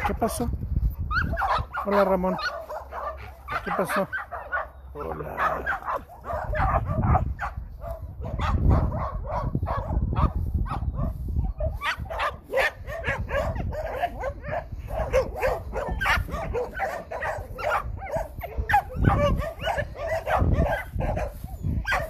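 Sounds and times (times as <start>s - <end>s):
dogs barking and yipping: 0.0s - 22.0s.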